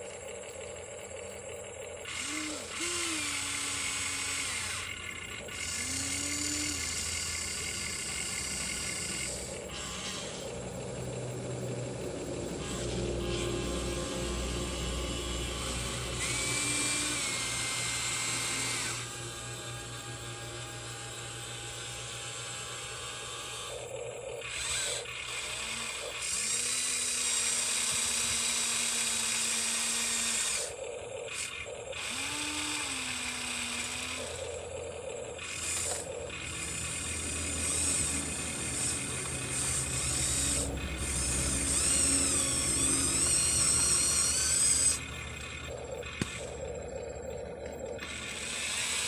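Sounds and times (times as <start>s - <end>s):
electric motors whirring: 0.0s - 49.0s.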